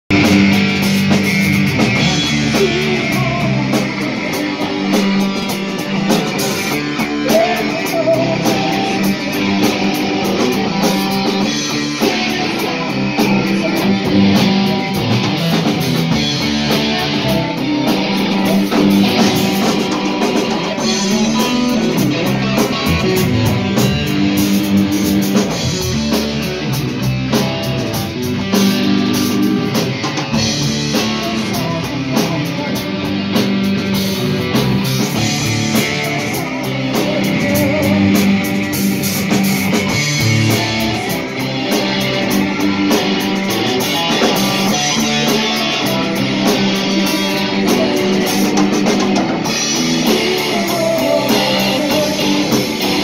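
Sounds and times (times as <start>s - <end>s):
bass guitar: 0.0s - 53.0s
drum kit: 0.1s - 53.0s
electric guitar: 0.1s - 53.0s.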